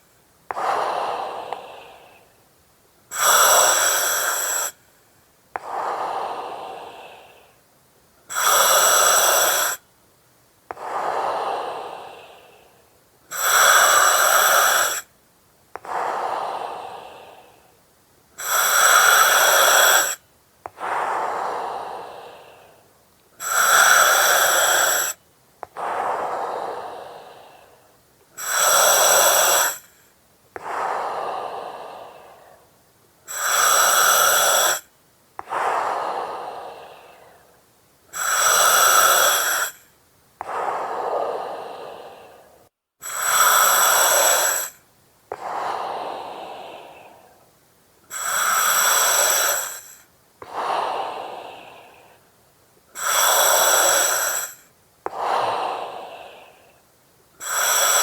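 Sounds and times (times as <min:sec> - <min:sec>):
breathing through oxygen mask: 0:00.0 - 0:02.3, 0:03.1 - 0:04.8, 0:08.3 - 0:09.8, 0:10.7 - 0:15.1, 0:15.8 - 0:17.7, 0:18.4 - 0:56.8, 0:57.4 - 0:58.0.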